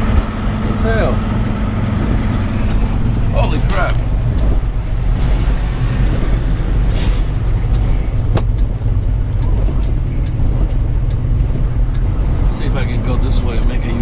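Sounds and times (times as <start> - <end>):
truck engine droning: 0.0 - 14.0.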